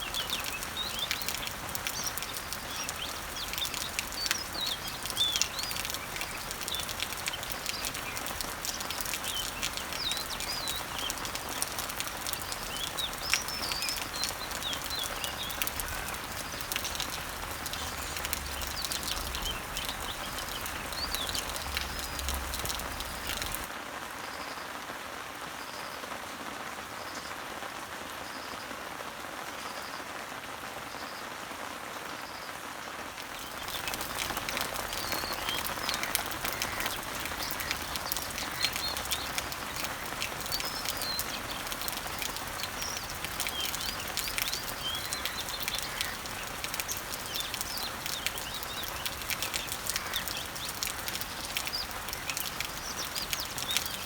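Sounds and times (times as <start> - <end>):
songbirds chirping: 0.0 - 24.8, 30.9 - 54.0
rain falling on leaves: 0.0 - 54.0
drops ticking close by: 0.1 - 23.7, 33.3 - 54.0.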